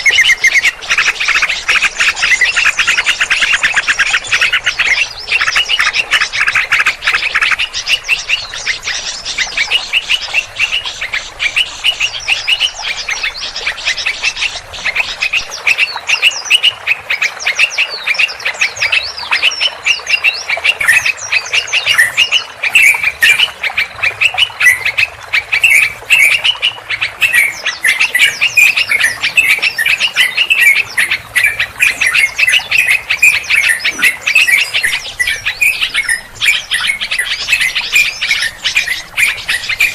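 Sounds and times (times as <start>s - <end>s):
many small birds chattering: 0.0s - 39.9s.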